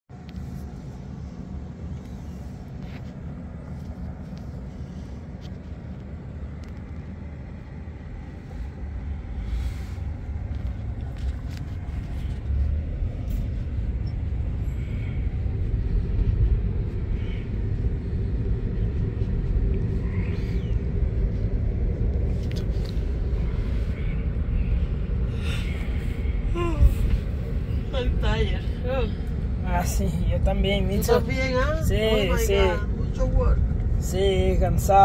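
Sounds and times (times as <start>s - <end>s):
road and tyre noise in cabin: 0.1s - 35.0s.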